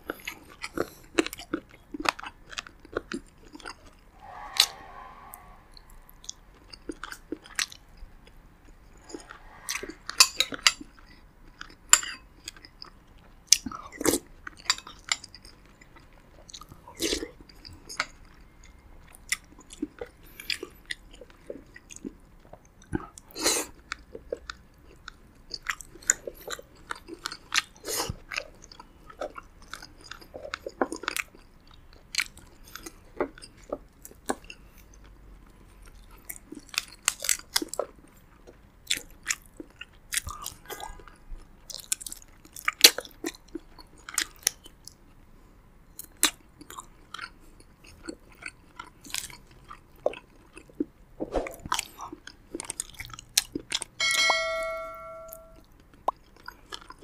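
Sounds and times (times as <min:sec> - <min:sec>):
man chewing food: 0:00.0 - 0:04.0, 0:06.2 - 0:45.3, 0:45.9 - 0:51.0, 0:51.6 - 0:54.1, 0:55.6 - 0:57.0.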